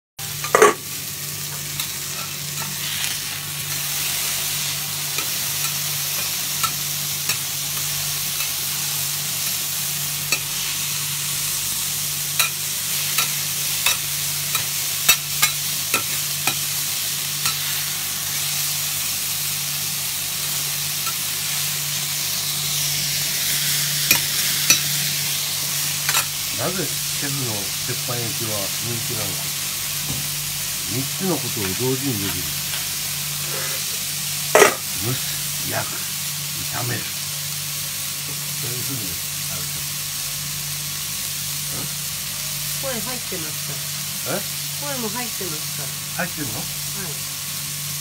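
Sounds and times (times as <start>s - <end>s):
beef sizzling on a griddle: 0.2s - 48.0s.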